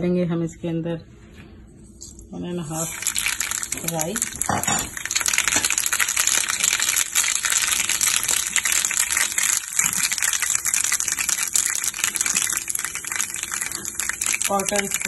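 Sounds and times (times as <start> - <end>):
seeds sizzling in hot oil: 2.0 - 15.0.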